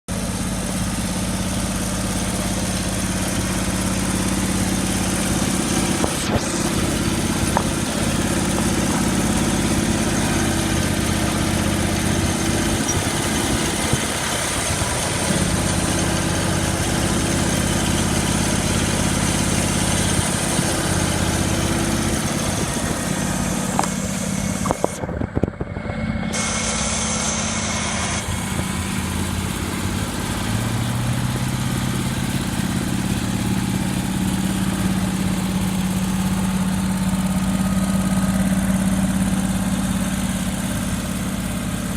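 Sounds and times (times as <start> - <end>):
riding lawnmower engine running: 0.1 - 41.9.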